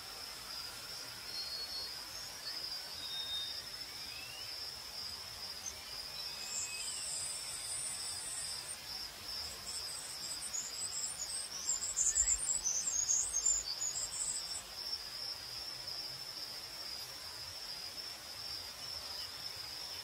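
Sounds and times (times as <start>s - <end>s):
crickets trilling: 0.0s - 20.0s
higher pulsing cricket chirp: 0.0s - 20.0s.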